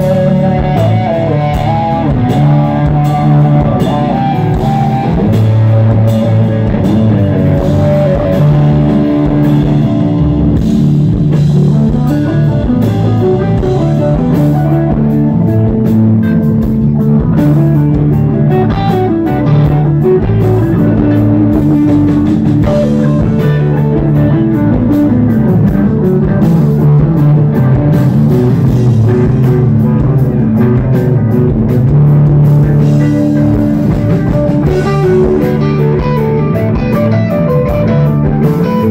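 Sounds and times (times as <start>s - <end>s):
drum kit: 0.0s - 38.9s
electric guitar: 0.0s - 38.9s
rock band playing live: 0.0s - 38.9s.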